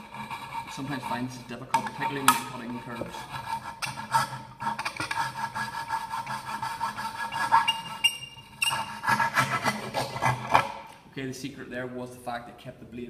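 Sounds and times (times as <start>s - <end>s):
saw rasping through wood: 0.0s - 10.8s.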